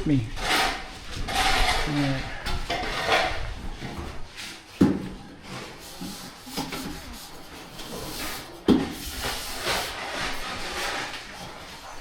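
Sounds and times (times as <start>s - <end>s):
rubbing and scraping: 0.0s - 12.0s.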